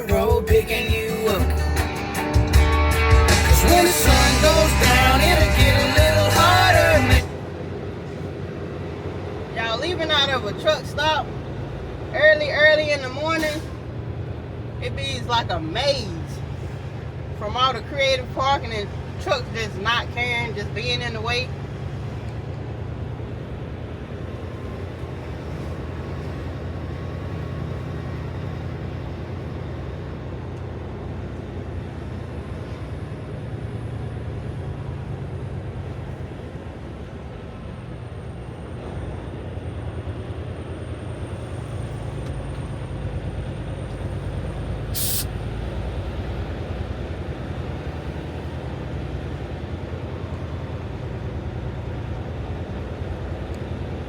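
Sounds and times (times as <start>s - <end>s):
road noise: 0.0s - 54.0s
truck diesel engine running: 0.0s - 54.0s.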